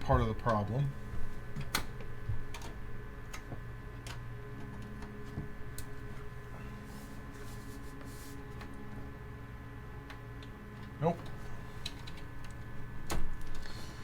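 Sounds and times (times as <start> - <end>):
computer humming: 0.0 - 14.0.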